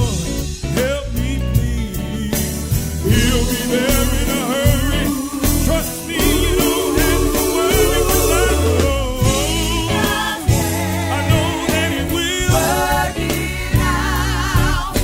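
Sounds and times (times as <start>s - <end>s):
band with bass and drums: 0.0s - 15.0s
gospel choir singing with vibrato: 2.2s - 15.0s.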